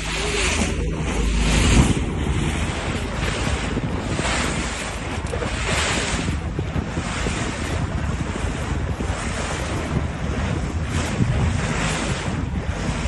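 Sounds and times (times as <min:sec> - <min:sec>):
sea waves washing around boat: 0:00.0 - 0:13.0
wind buffeting microphone: 0:00.0 - 0:13.0.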